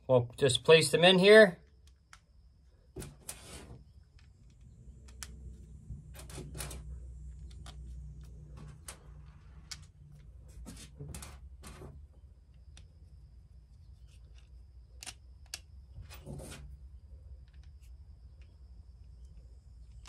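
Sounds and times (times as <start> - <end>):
faint low hum: 0.0 - 20.0
small screws clicking and scraping: 3.0 - 20.0.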